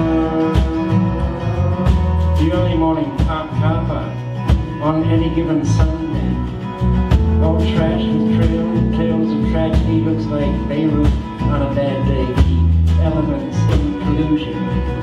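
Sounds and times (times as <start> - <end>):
country folk band playing: 0.0 - 15.0.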